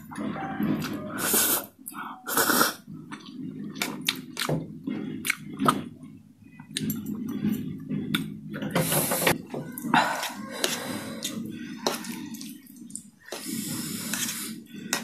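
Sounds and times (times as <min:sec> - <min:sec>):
slurping noodles: 0:00.0 - 0:06.1, 0:06.7 - 0:15.0
wet chewing: 0:00.0 - 0:08.3, 0:09.7 - 0:15.0.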